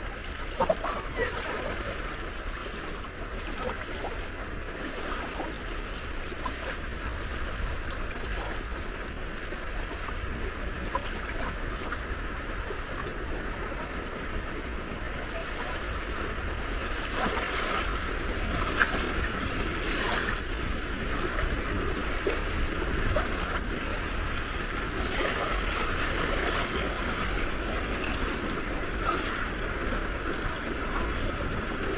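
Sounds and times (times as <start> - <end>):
small waves lapping at shore: 0.0 - 31.9.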